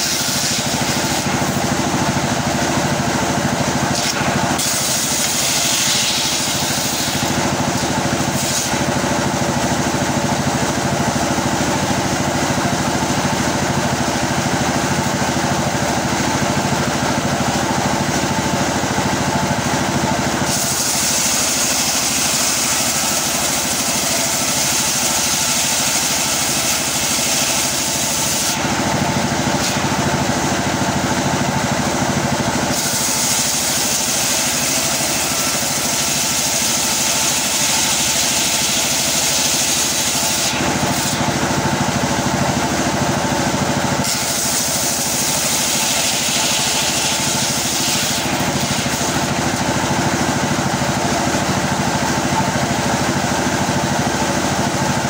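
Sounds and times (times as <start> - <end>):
circular saw cutting wood: 0.0 - 53.1.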